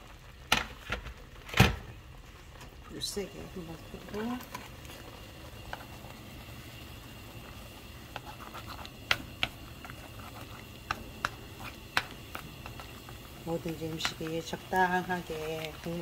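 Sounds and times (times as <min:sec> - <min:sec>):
thick broth bubbling and popping: 0:00.0 - 0:16.0.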